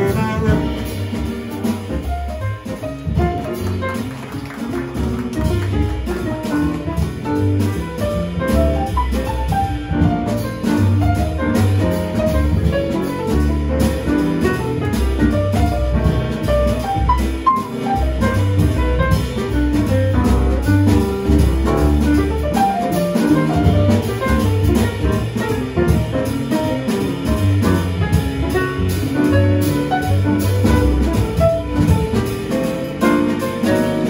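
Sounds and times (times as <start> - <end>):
bass line: 0.0 - 34.0
drum kit: 0.0 - 34.0
piano playing quick lines: 0.0 - 34.0.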